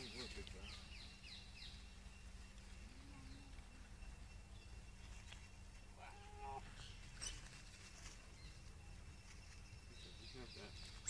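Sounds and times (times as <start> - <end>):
faint high chirps: 0.0 - 11.0
steady low hum: 0.0 - 11.0.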